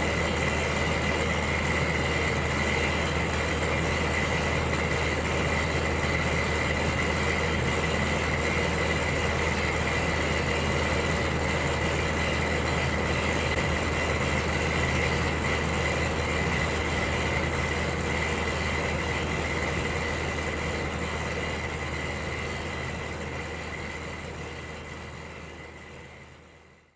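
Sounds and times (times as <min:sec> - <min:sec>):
electric heater humming: 0:00.0 - 0:25.9.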